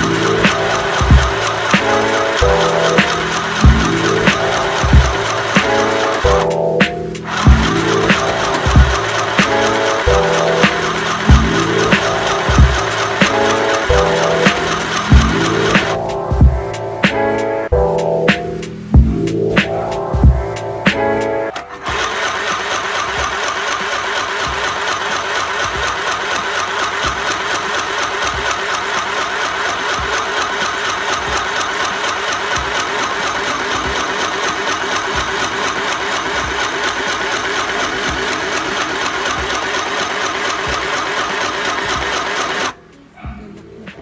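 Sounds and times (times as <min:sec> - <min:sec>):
sewing machine rattling: 0:00.0 - 0:06.6, 0:07.2 - 0:16.0, 0:21.5 - 0:42.8.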